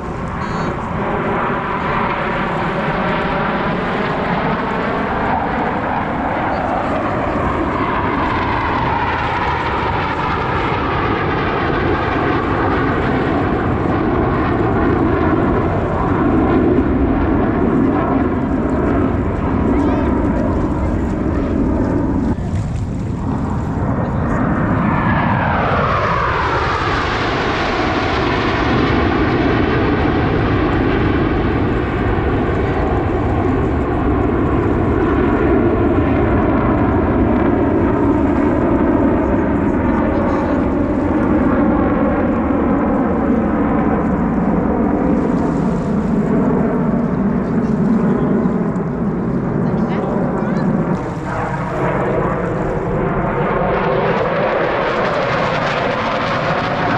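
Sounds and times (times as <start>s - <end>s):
jet flying past roaring: 0.0s - 56.9s.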